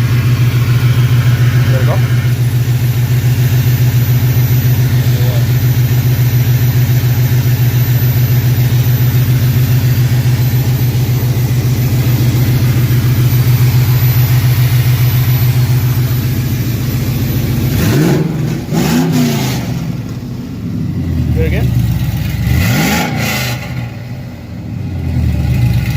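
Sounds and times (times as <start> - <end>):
car engine idling and revving: 0.0 - 25.9.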